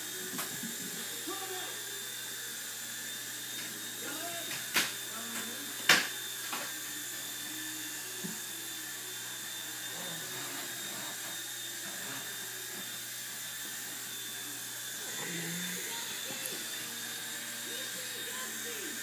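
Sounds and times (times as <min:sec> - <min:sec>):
toy helicopter motor whine: 0:00.0 - 0:19.0.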